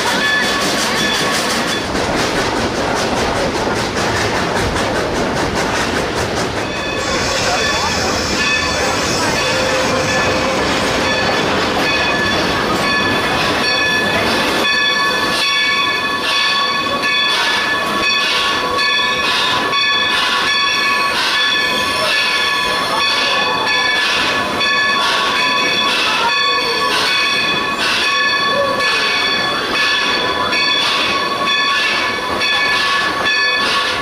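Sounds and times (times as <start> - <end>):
train wheels rolling on rail: 0.0 - 34.0.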